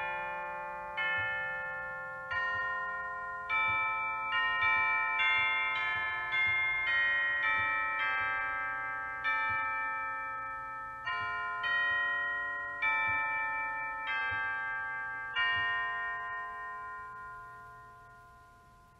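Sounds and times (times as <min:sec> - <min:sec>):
slow melody on tuned bells: 0:00.0 - 0:18.9.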